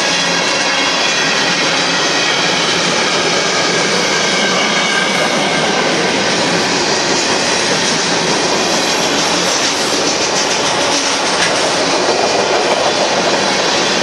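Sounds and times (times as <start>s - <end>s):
steel train wheels rumbling on rail: 0.0s - 14.0s.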